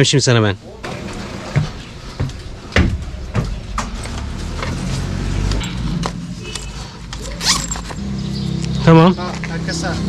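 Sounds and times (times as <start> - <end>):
vehicle engine rumble: 0.7 - 10.0.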